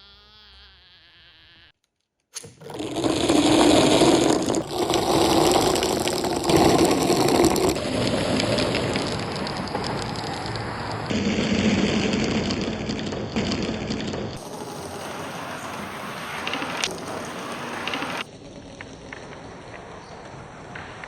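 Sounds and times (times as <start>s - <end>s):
marbles rattling down a track: 2.4s - 19.5s.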